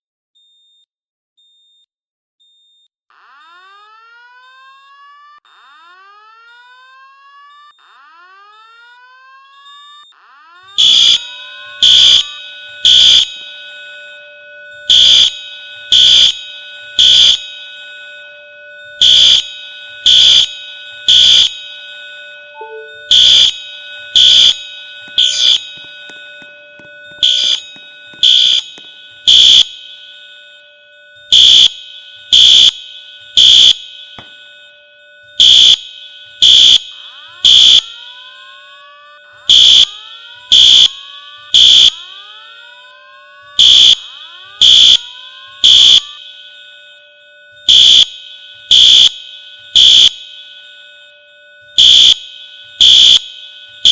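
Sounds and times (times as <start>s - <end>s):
fire alarm blasts: 3.1s - 53.9s.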